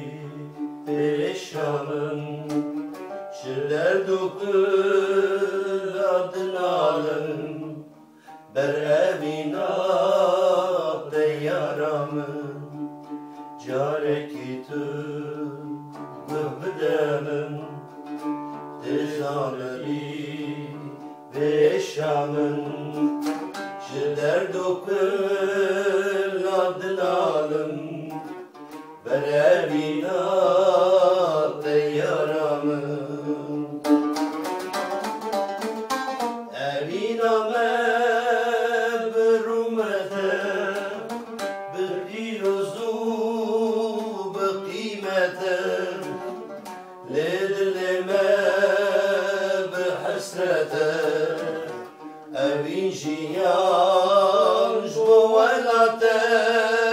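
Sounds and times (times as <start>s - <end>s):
men singing: 0.0s - 7.9s, 8.5s - 12.9s, 13.6s - 34.7s, 36.5s - 56.9s
oud playing: 0.0s - 56.9s.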